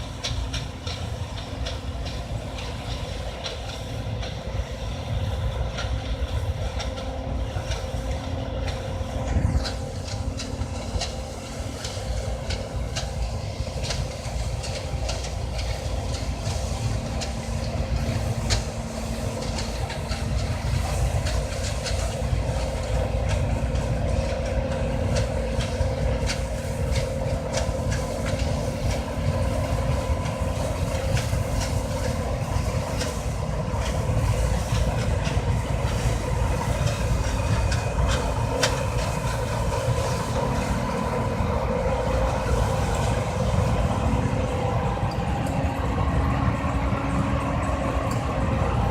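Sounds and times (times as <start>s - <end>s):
combine harvester engine drone: 0.0s - 48.9s.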